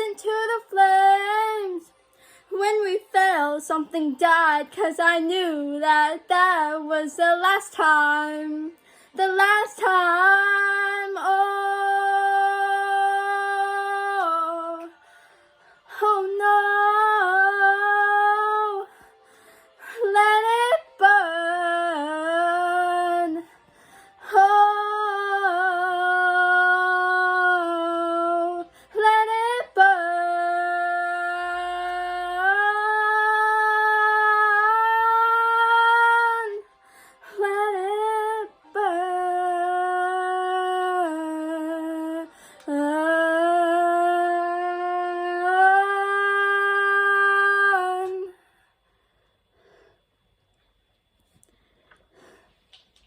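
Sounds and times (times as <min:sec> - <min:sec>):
woman singing wordless notes: 0:00.0 - 0:23.6, 0:24.2 - 0:48.4.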